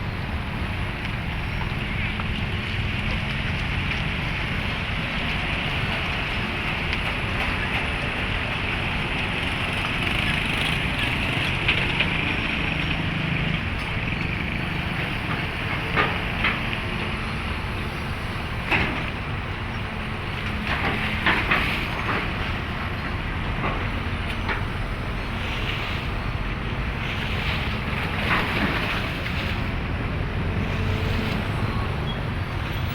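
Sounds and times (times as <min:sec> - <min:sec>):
heavy machinery engine rumble: 0:00.0 - 0:32.9.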